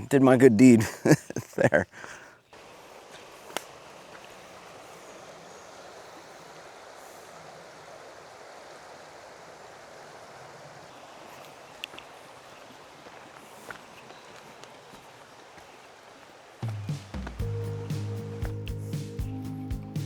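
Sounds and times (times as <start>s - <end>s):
creek flowing: 2.0s - 20.0s.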